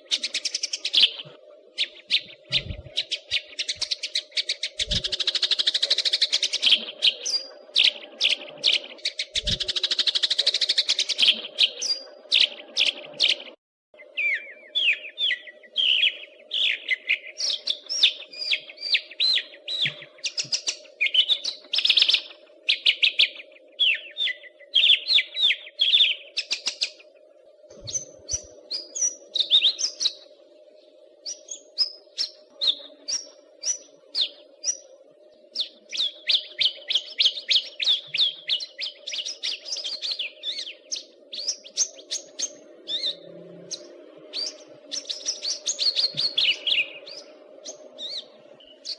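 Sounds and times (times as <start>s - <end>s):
faint low hum: 0.0s - 13.4s, 14.0s - 48.9s
bird chirping and trilling: 0.0s - 48.9s.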